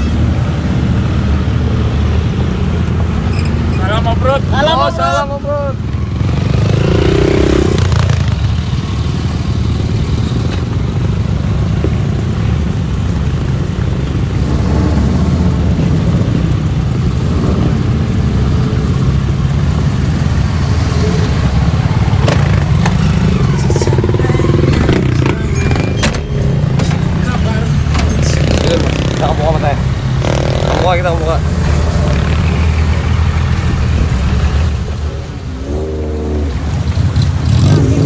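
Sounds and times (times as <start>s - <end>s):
off-road engines rumbling: 0.0s - 38.0s.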